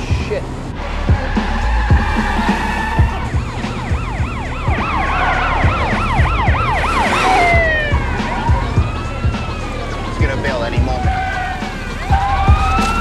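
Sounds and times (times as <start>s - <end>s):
police siren yelping: 1.1s - 13.0s.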